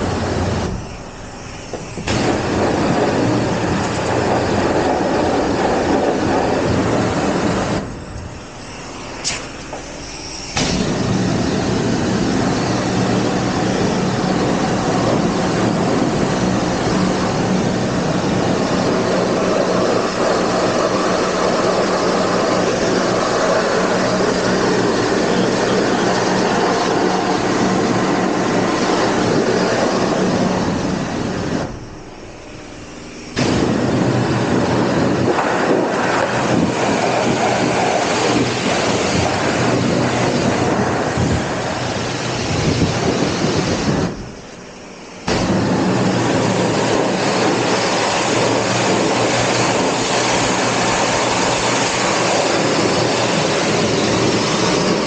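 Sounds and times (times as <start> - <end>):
low hum: 0.0 - 55.0
pressure washer spraying water: 0.0 - 55.0.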